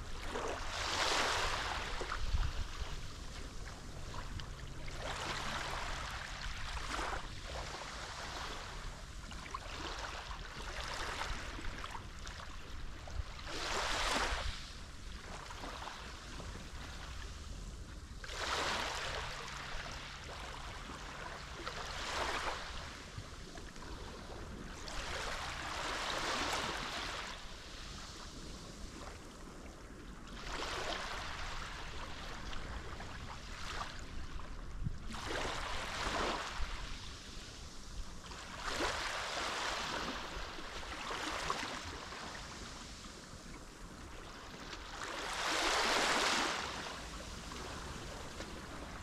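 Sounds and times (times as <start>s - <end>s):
waves breaking on shore: 0.0s - 49.0s.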